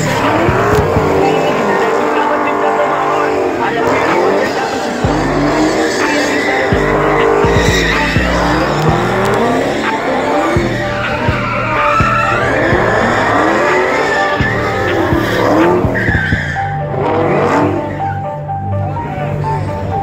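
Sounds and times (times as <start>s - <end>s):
car engine revving hard: 0.0s - 18.2s
tyres squealing: 0.0s - 18.4s.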